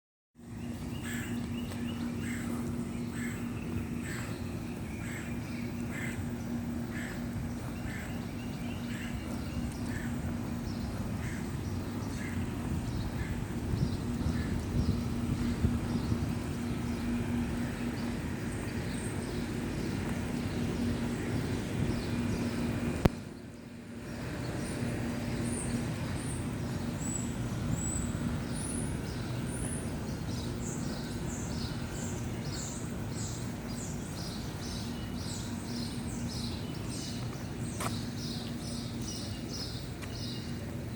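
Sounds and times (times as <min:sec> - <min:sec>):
birds chirping: 0:00.4 - 0:40.9
low hum and rumble: 0:00.4 - 0:40.9.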